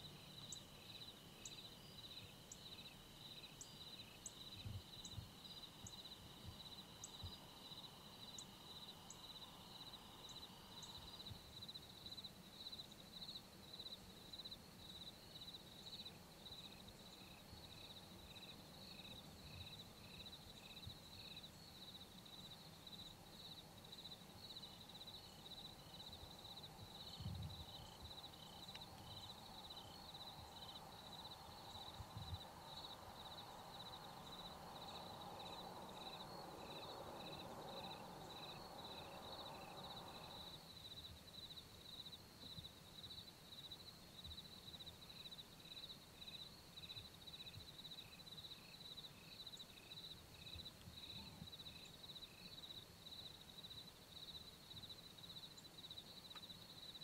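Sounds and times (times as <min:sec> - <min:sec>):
insect chirping: 0:00.0 - 0:57.0.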